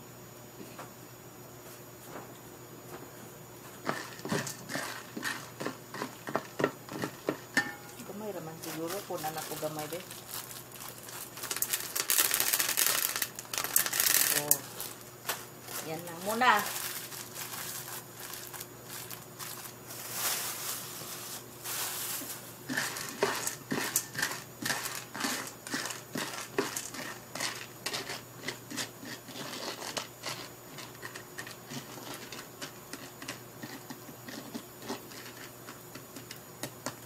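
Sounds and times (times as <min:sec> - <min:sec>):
popcorn kernels rattling in pot: 0:03.8 - 0:37.0.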